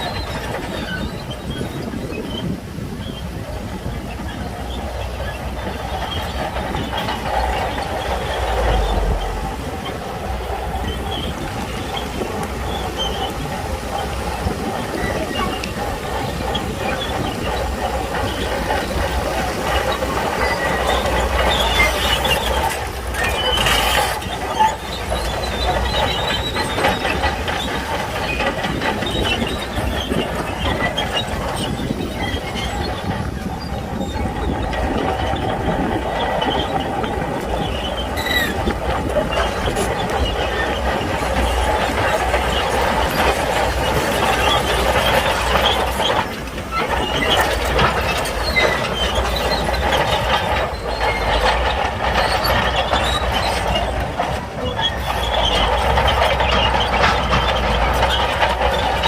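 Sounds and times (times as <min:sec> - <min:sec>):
bulldozer diesel engine rumbling: 0:00.0 - 0:59.0
steel tracks squealing and clanking: 0:00.0 - 0:59.0.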